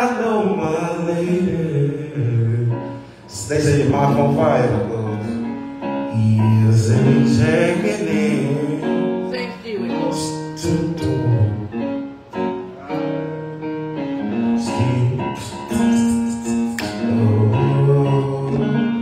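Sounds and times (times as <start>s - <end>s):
man singing into microphone: 0.0s - 9.2s, 10.1s - 11.9s, 14.2s - 19.0s
instrumental backing music: 0.0s - 19.0s.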